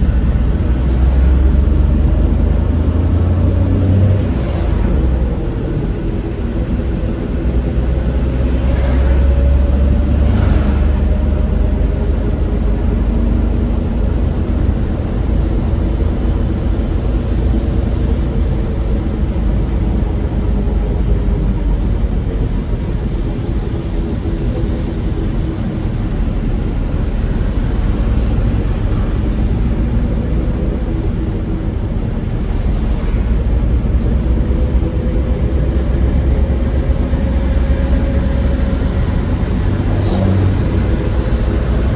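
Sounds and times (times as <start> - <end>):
car engine hum: 0.0 - 41.9
tyres hissing on wet road: 0.0 - 41.9.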